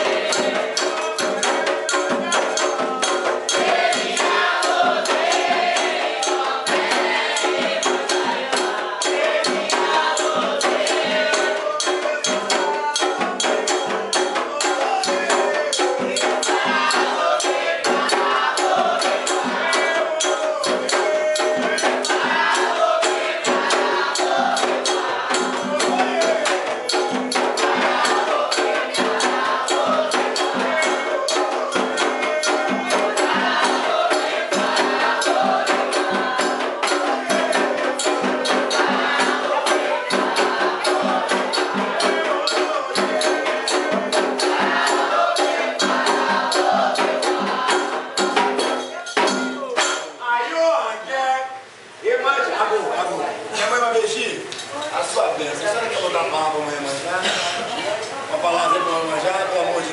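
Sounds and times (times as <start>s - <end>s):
hand percussion with shakers: 0.0s - 50.2s
sharp wood-block-like beat: 0.0s - 50.3s
voices singing: 0.0s - 59.9s.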